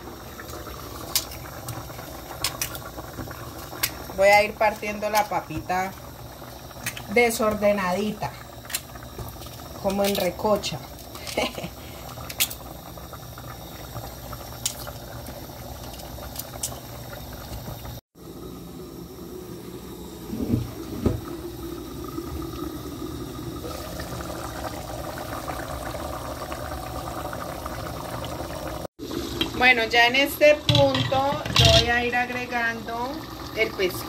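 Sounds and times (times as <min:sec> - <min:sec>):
soup boiling and bubbling: 0:00.0 - 0:34.0.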